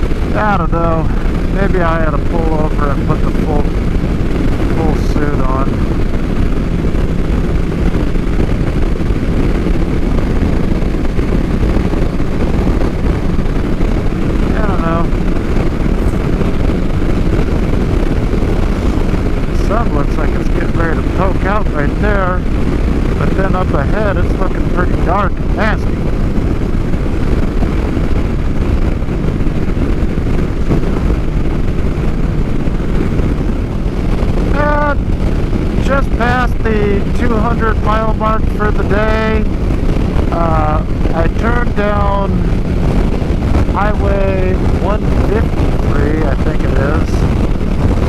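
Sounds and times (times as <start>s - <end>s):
motorcycle engine drone: 0.0s - 48.0s
wind rushing over microphone: 0.0s - 48.0s.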